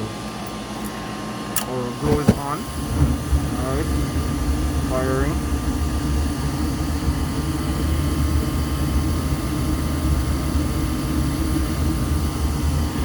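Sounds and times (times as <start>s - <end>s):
gas furnace burner rumble: 1.1s - 13.0s.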